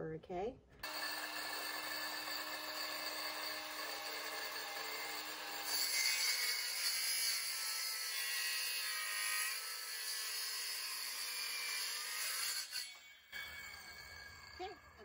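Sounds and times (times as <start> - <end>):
circular saw cutting wood: 0.8 - 15.0.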